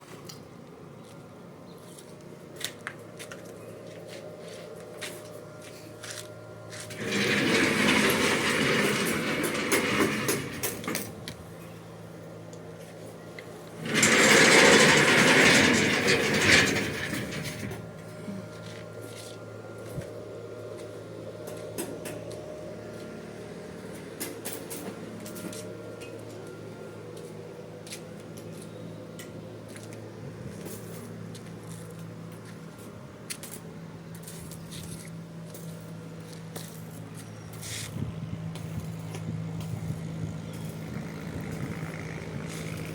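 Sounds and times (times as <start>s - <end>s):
steady low hum: 0.2s - 42.9s
furnace machinery running: 2.3s - 42.9s.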